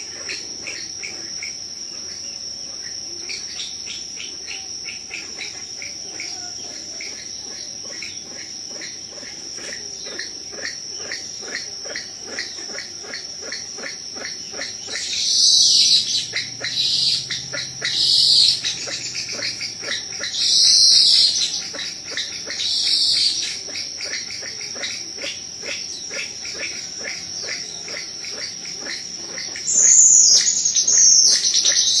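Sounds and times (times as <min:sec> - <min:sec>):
bird calls: 0:00.0 - 0:32.0
insect chorus with pulsing trill: 0:00.0 - 0:32.0.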